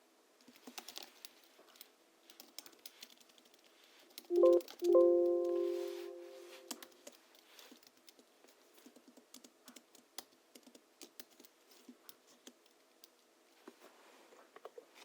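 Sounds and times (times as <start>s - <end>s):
soft keyboard typing: 0.4s - 13.2s.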